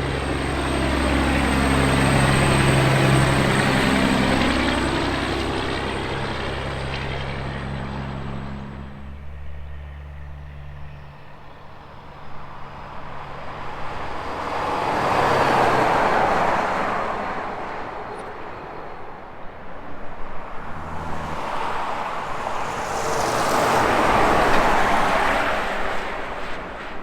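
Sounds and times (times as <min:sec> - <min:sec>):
highway vehicles passing: 0:00.0 - 0:27.0.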